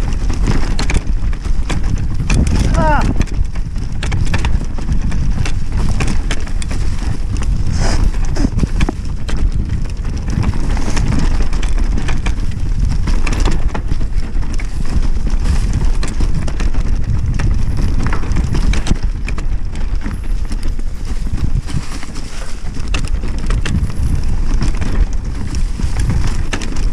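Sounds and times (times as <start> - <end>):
bike rattling over bumps: 0.0 - 26.9
tyres rolling over leaves and stones: 0.0 - 26.9
wind rumble on microphone: 0.0 - 26.9.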